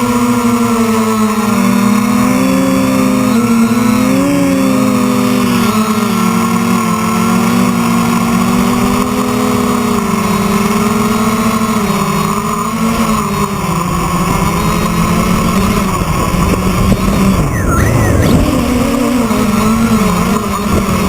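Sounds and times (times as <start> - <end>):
quadcopter propellers buzzing: 0.0 - 21.0.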